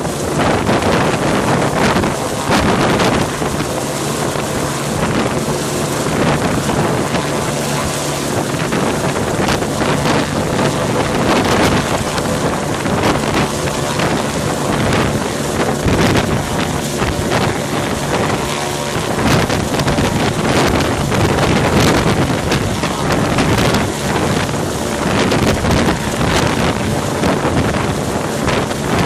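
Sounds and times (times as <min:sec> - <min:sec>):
downwash buffeting microphone: 0:00.0 - 0:29.0
helicopter rotor and turbine: 0:00.0 - 0:29.0.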